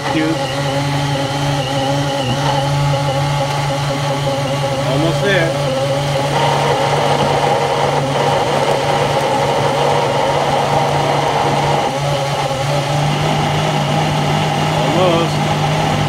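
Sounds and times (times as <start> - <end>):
blender motor straining: 0.0 - 16.0.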